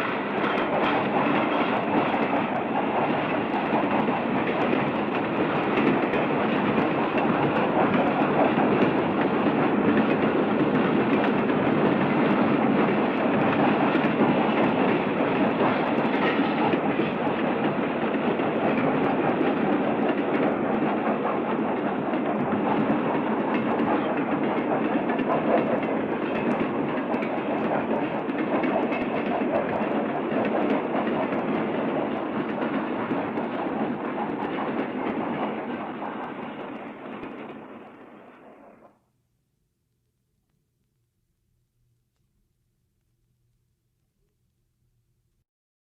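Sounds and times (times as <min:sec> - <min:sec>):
train wheels clicking over rail joints: 0:00.0 - 0:38.8.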